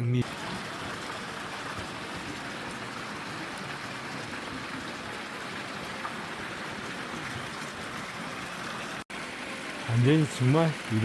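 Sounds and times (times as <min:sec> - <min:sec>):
water splashing from a fountain: 0:00.1 - 0:11.0.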